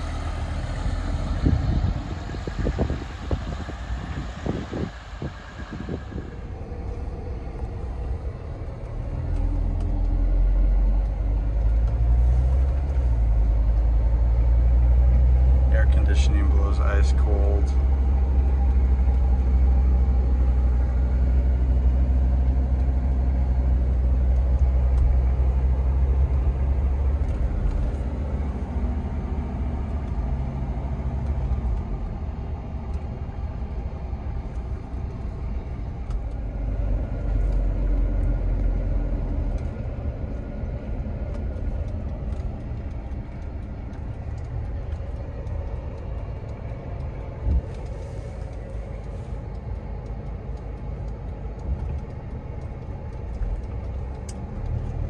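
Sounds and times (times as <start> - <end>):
diesel engine drone: 0.0 - 55.0
road noise: 0.0 - 55.0.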